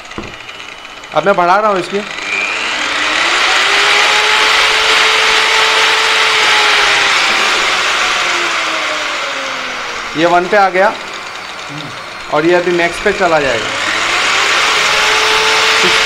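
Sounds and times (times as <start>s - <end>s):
car polisher motor whine: 0.0s - 16.0s.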